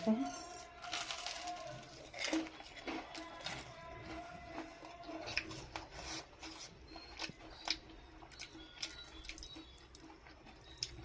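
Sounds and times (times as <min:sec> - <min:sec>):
crunchy chewing: 0:00.7 - 0:11.0.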